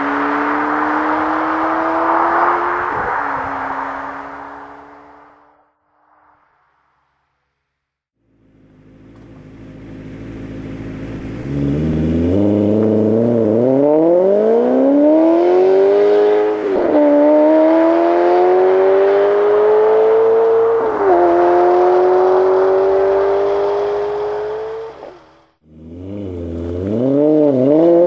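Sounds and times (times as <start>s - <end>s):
car engine accelerating: 0.0s - 5.4s, 8.3s - 28.0s.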